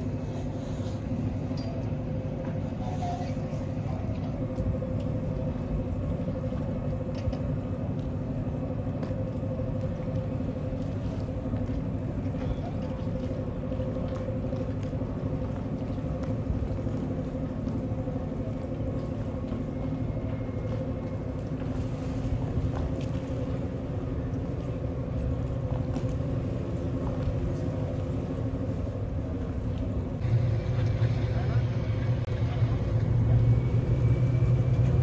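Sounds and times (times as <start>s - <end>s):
boat machinery rumbling: 0.0s - 35.0s.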